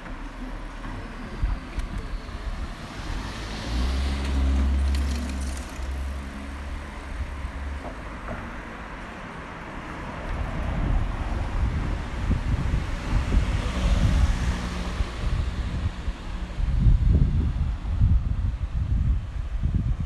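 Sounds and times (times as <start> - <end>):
motor vehicle passing by: 0.8 - 8.0, 9.9 - 19.8.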